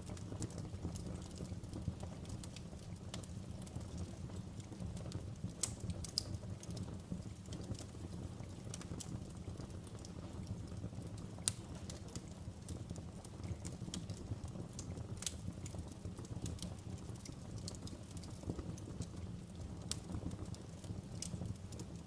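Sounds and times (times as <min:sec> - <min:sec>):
flames rumbling: 0:00.0 - 0:22.0
wood popping and crackling: 0:00.1 - 0:22.0.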